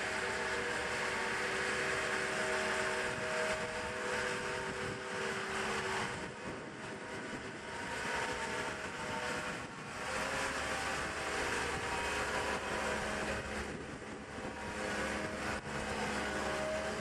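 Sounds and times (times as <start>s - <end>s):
boat hoist engine running: 0.0s - 17.0s
steady whine: 0.0s - 17.0s.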